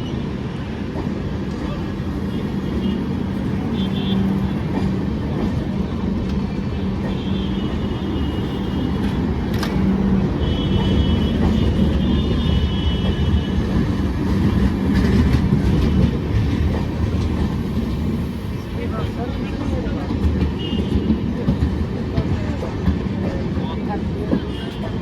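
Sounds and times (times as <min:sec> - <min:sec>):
train wheels rumbling on rails: 0:00.1 - 0:25.0.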